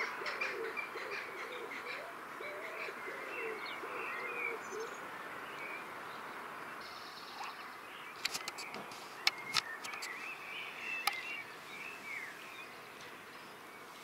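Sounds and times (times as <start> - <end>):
birds chirping and twittering: 0.0 - 14.0
steady outdoor hiss: 0.0 - 14.0.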